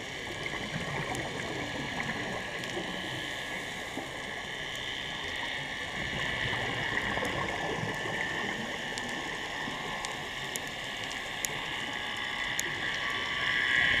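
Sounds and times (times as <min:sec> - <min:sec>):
muffled underwater hiss: 0:00.0 - 0:14.0.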